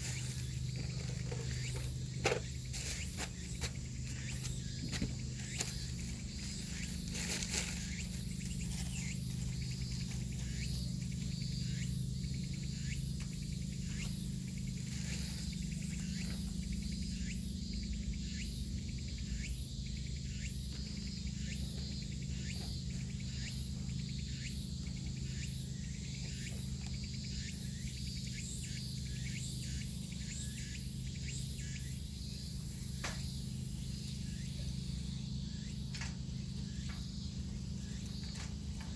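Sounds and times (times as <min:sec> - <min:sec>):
insects trilling: 0:00.0 - 0:38.9
steady low hum: 0:00.0 - 0:38.9.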